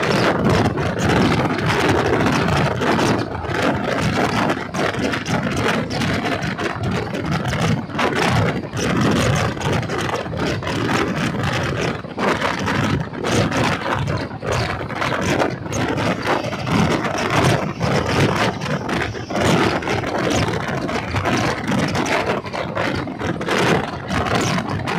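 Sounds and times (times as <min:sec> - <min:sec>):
train wheels clattering on track: 0:00.0 - 0:24.9.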